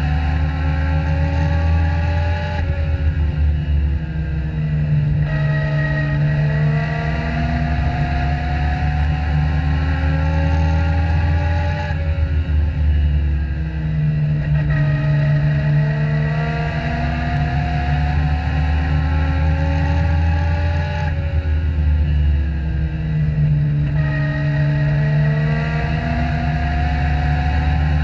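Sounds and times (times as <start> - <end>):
racing car engine revving: 0.0 - 28.0.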